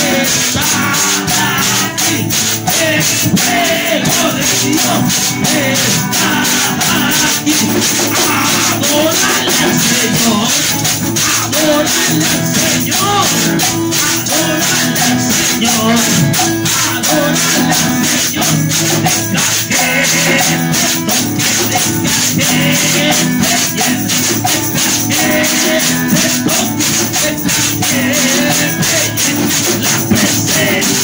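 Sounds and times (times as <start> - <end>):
electric guitar: 0.0 - 31.0
man singing into microphone: 0.0 - 31.0
rattling hand percussion: 0.0 - 31.0.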